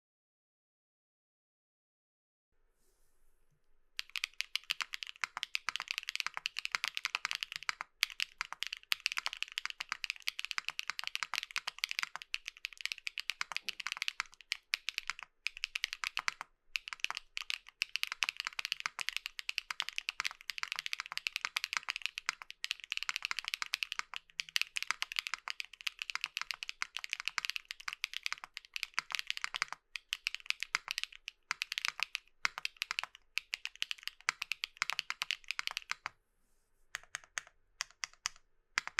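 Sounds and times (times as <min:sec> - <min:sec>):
fast typing on mechanical keyboard: 0:04.0 - 0:36.1, 0:37.0 - 0:38.9.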